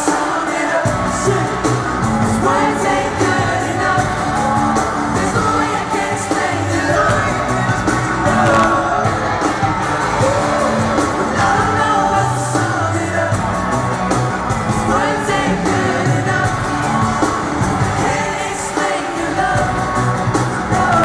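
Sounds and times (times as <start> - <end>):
live pop singing with band: 0.0 - 21.0.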